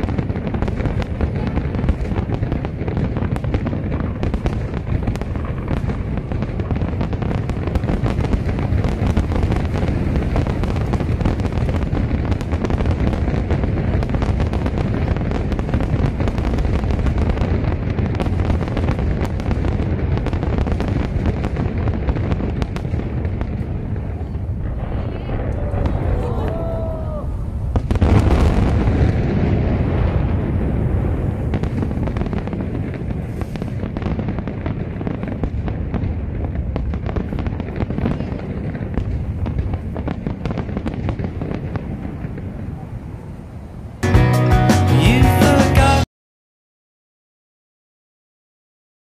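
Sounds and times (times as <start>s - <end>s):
fireworks bursting: 0.0s - 46.1s
fireworks crackling: 0.0s - 46.1s.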